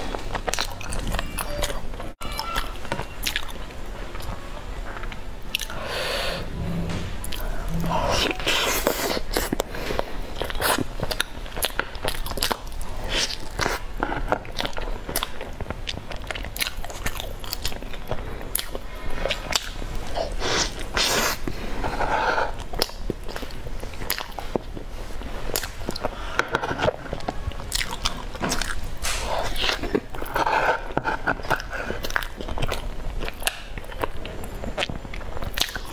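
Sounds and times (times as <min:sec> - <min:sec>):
crunchy chewing: 0:00.0 - 0:06.2, 0:07.8 - 0:35.9.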